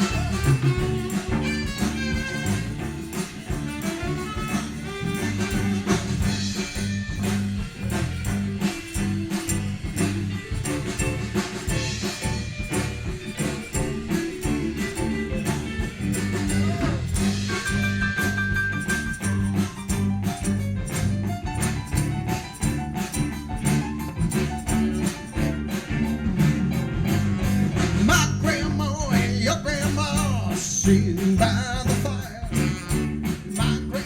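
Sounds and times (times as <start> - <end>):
bass line: 0.0 - 34.0
blues band playing: 0.0 - 34.0
drum beat: 0.0 - 34.0.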